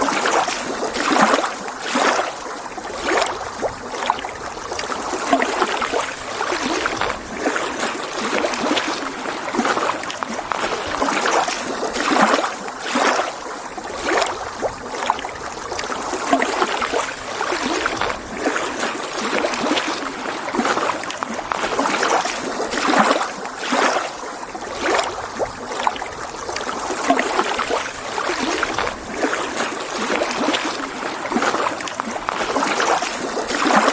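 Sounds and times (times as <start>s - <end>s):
waves lapping against shore: 0.0s - 33.9s.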